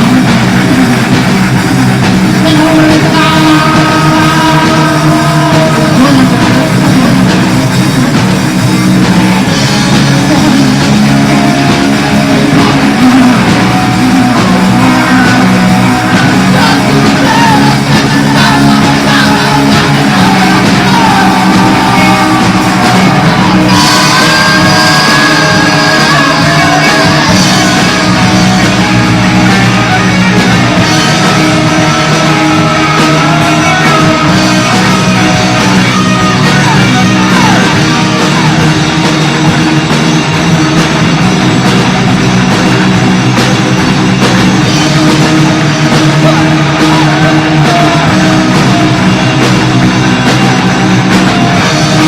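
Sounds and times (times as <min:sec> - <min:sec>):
rock band playing: 0:00.0 - 0:52.0.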